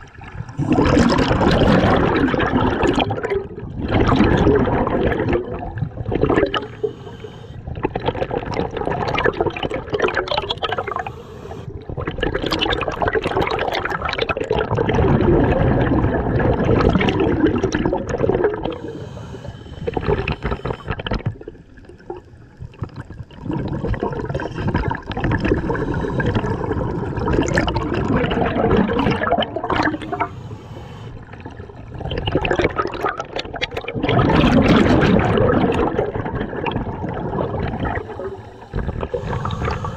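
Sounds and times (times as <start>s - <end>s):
diver's breath bubbling: 0.3s - 22.2s, 22.8s - 39.9s.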